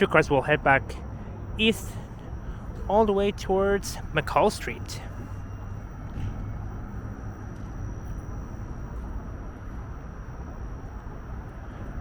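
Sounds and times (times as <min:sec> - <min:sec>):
faint high-pitched whine: 0:00.0 - 0:12.0
traffic rumble: 0:00.0 - 0:12.0.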